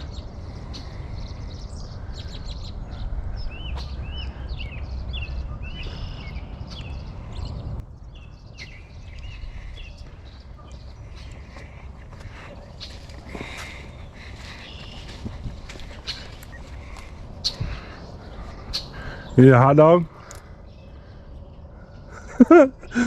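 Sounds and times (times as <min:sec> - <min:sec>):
low rumble: 0:00.0 - 0:22.9
small birds chirping: 0:00.0 - 0:23.0.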